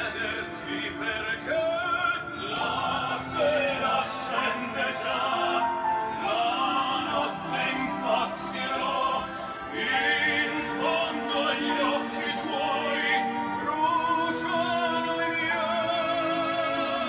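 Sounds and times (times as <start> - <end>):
operatic singing: 0.0 - 17.0.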